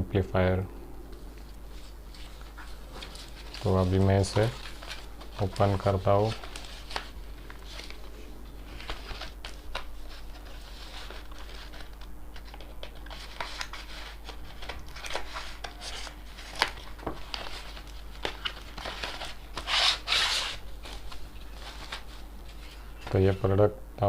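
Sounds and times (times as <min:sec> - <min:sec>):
packaging crinkling and tearing: 0:02.2 - 0:22.2.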